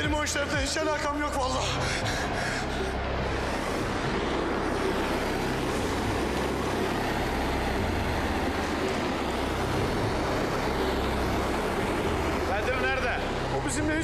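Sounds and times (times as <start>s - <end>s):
gas blowtorch rushing flame: 1.8s - 14.0s.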